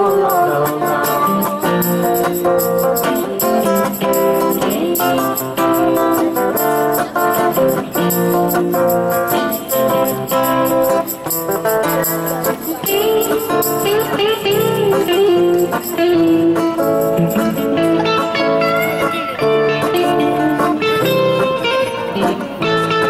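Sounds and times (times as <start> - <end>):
acoustic guitar: 0.0 - 23.0
electric guitar lead with bent notes: 0.0 - 23.0.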